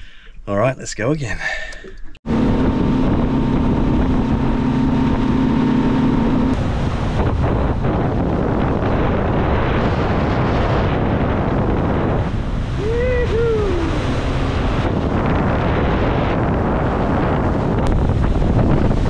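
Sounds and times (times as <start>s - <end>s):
water rushing past boat hull: 2.2s - 19.0s
wind buffeting microphone: 2.2s - 19.0s.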